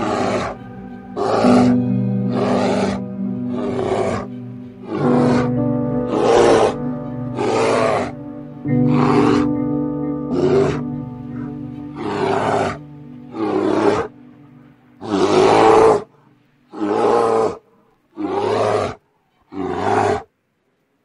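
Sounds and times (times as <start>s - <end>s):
big cat roaring: 0.0s - 14.2s, 15.0s - 16.1s, 16.7s - 20.3s.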